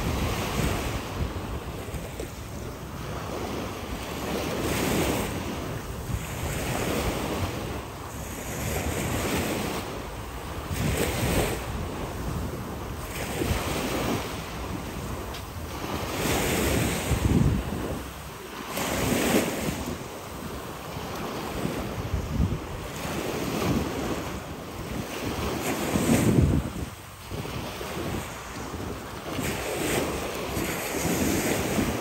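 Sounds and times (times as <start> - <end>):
sea waves washing ashore: 0.0 - 32.0
wind buffeting microphone: 0.0 - 32.0.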